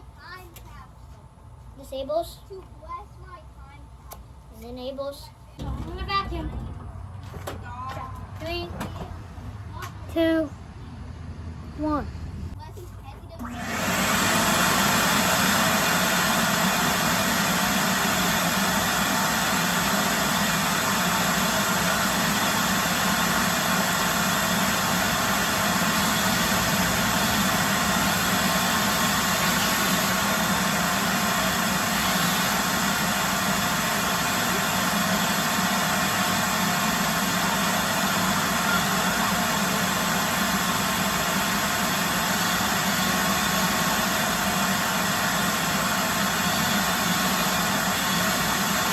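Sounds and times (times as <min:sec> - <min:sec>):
shop vacuum running: 0:05.6 - 0:12.6, 0:13.3 - 0:48.9.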